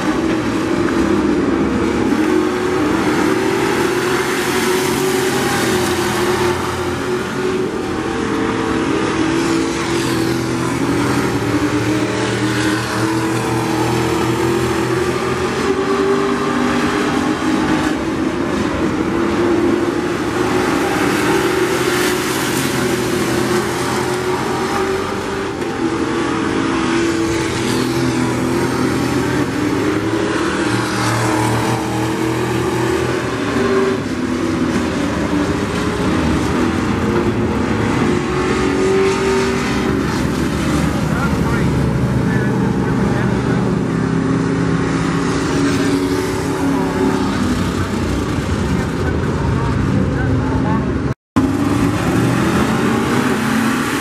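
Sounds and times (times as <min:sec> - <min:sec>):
race car engines: 0:00.0 - 0:54.0.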